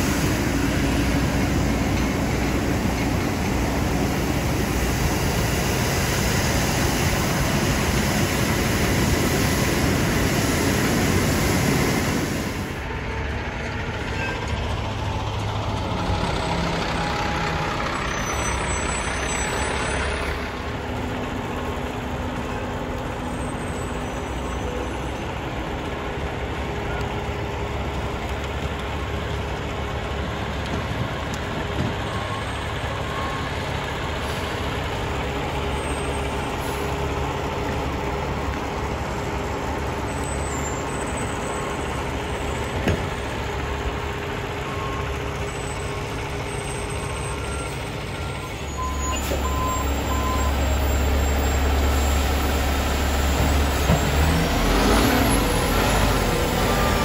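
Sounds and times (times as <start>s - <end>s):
diesel trucks and paving machines: 0.0s - 57.0s
dump truck unloading rumble: 0.0s - 57.0s.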